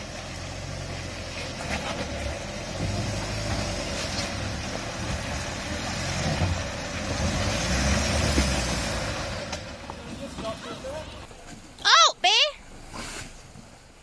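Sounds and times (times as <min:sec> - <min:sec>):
engine working under load: 0:00.0 - 0:11.8.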